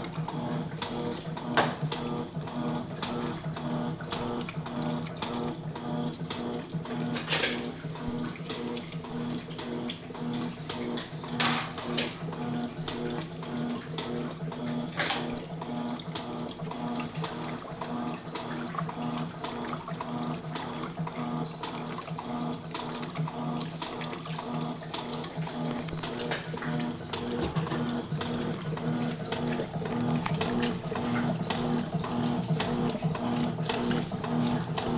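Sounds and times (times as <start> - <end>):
knocks from churning laundry: 0.0 - 34.9
washing machine motor humming: 0.0 - 34.9
water sloshing: 0.0 - 34.9.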